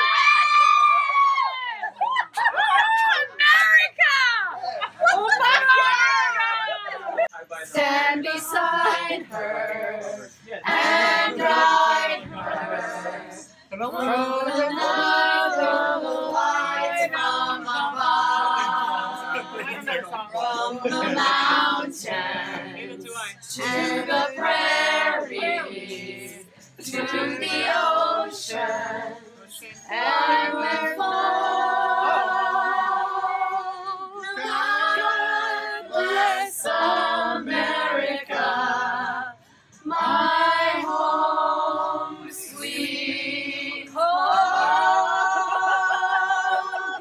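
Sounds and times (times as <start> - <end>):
women singing unaccompanied: 7.6 - 47.0.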